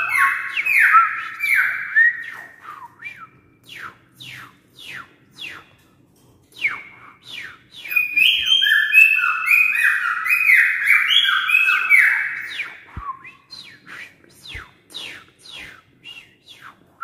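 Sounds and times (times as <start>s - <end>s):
songbird singing: 0.0s - 5.9s, 6.5s - 16.8s.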